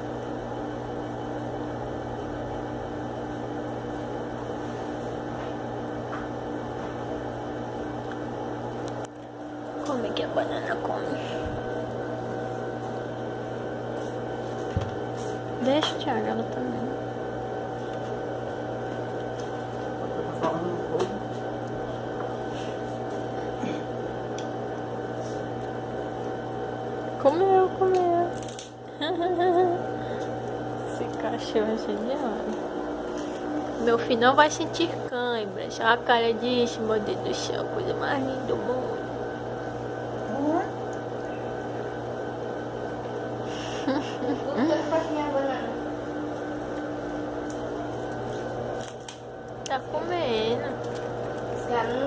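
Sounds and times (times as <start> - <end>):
steady hum with low drone: 6.2 - 42.0, 42.6 - 52.0.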